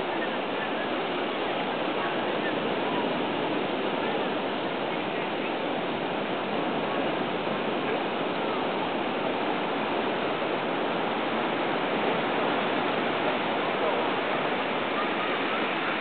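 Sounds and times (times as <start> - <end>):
water washing over rocky shore: 0.0 - 16.0.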